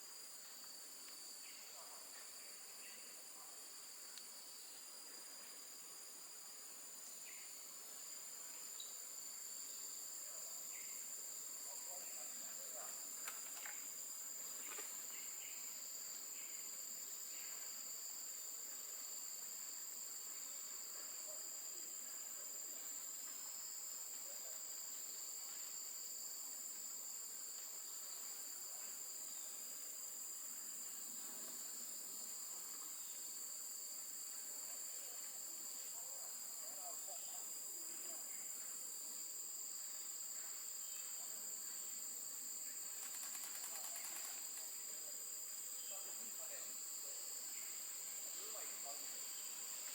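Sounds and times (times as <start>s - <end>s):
insects buzzing: 0.0s - 49.9s.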